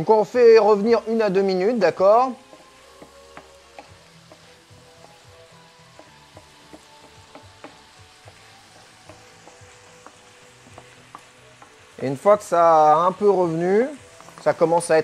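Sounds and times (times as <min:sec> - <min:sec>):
tomatoes sizzling in oil: 0:00.0 - 0:15.0.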